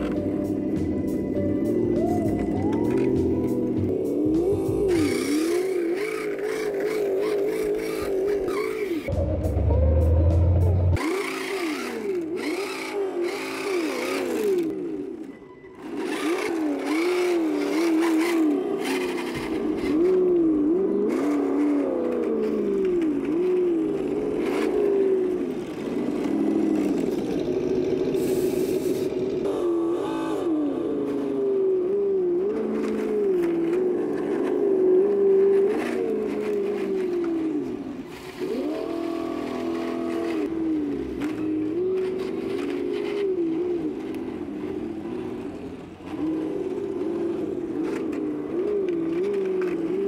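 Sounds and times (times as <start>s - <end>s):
toy car motor whining: 0.0s - 9.1s, 11.0s - 50.0s.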